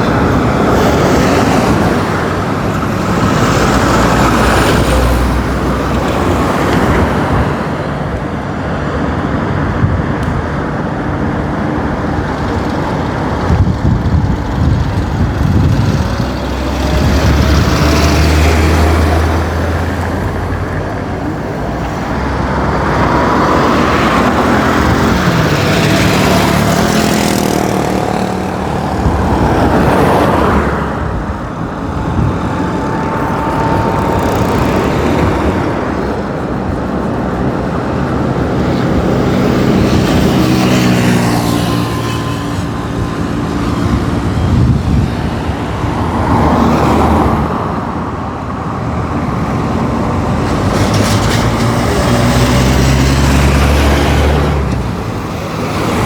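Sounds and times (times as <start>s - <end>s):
cars and trucks passing: 0.0s - 56.0s
faint engine whines: 0.0s - 56.0s.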